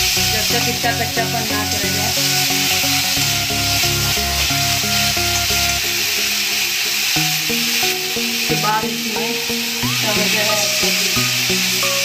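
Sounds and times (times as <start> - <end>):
background music with bass line: 0.0 - 12.0
onion and paste sizzling in oil: 0.0 - 12.0.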